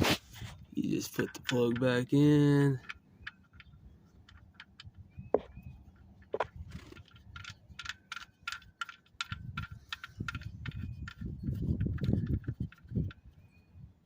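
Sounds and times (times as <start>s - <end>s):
metallic clicks and ticks: 0.9s - 13.4s.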